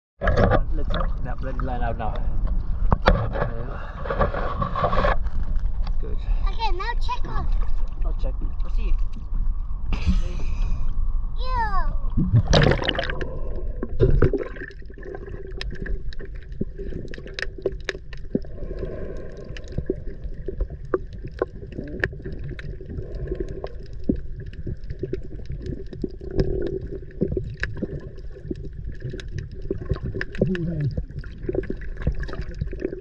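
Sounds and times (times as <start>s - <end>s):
water lapping against hull: 0.2s - 33.0s.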